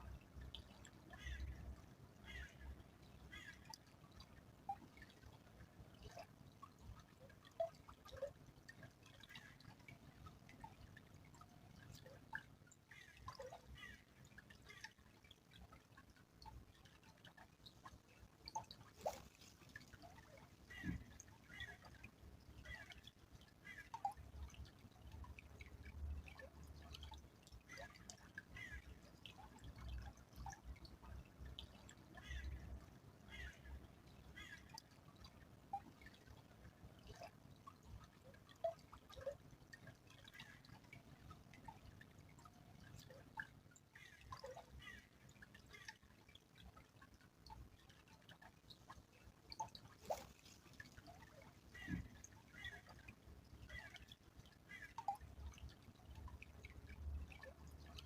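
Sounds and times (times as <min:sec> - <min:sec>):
faint stream trickling: 0:00.0 - 0:58.0
water dripping and plinking: 0:00.0 - 0:58.0.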